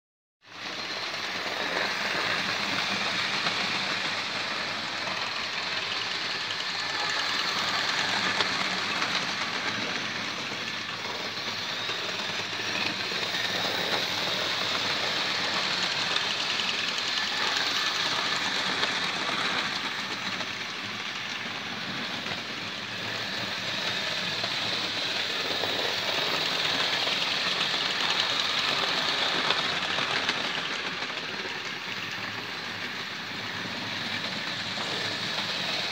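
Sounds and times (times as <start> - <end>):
model train motors whirring: 0.5 - 35.9.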